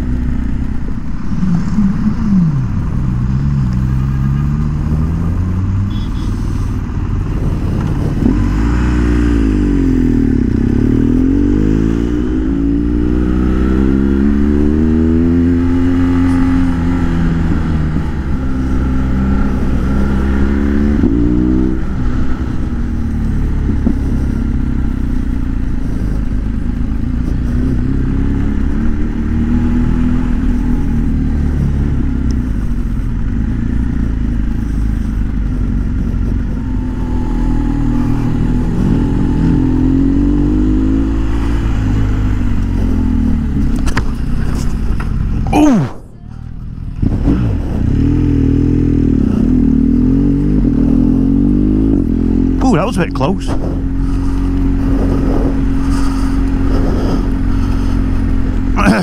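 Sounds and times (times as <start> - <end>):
motorcycle engine revving: 0.0 - 59.0
road noise: 0.0 - 59.0.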